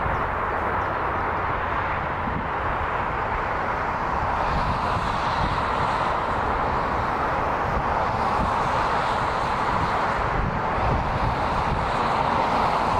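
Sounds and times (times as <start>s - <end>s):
jet engines roaring: 0.0s - 12.9s
trucks rumbling past: 0.0s - 12.9s.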